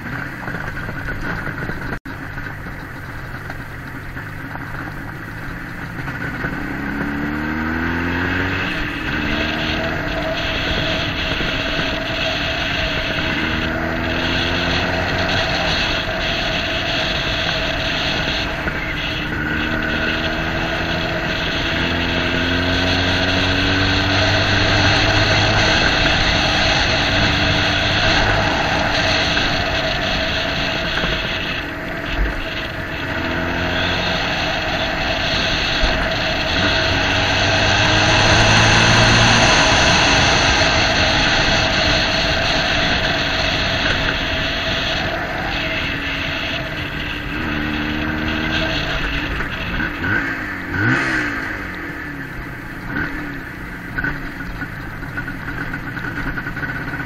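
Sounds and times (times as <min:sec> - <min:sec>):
road and wind noise: 0:00.0 - 0:57.0
vehicle engine revving: 0:00.0 - 0:57.0.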